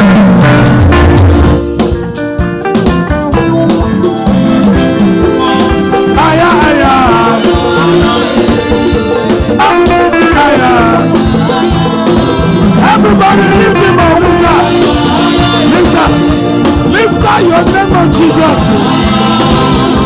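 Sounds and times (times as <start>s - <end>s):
upbeat praise band music: 0.0s - 20.0s
person singing: 3.3s - 20.0s.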